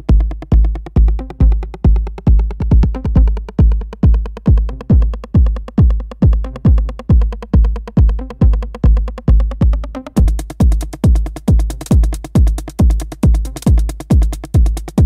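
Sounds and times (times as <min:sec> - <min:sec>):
fast ticking hi-hats: 0:00.0 - 0:15.0
heavy drum machine kick: 0:00.0 - 0:15.0
techno music: 0:00.0 - 0:15.0.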